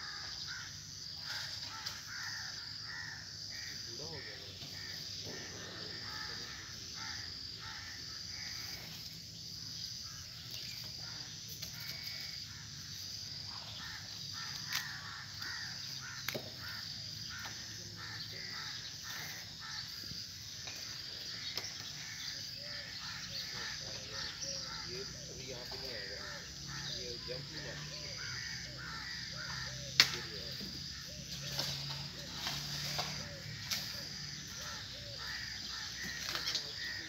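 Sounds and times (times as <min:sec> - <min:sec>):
birds cawing: 0:00.0 - 0:09.0, 0:13.5 - 0:37.0
insects chirping: 0:00.0 - 0:37.0.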